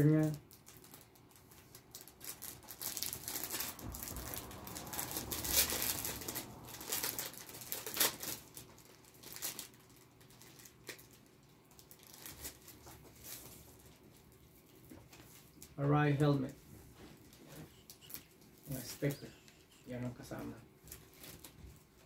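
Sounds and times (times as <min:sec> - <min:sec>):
paper packaging rustling: 0:00.0 - 0:15.8, 0:20.1 - 0:22.0
plastic bag crinkling: 0:00.0 - 0:15.8, 0:20.1 - 0:22.0.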